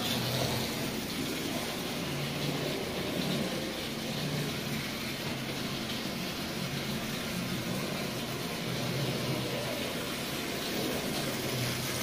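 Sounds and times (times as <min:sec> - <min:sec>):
toy train gears whirring: 0:00.0 - 0:12.0.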